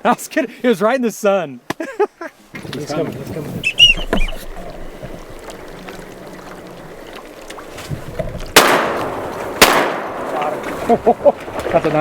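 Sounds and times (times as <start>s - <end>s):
wind: 0.0s - 12.0s
water noise: 2.2s - 12.0s.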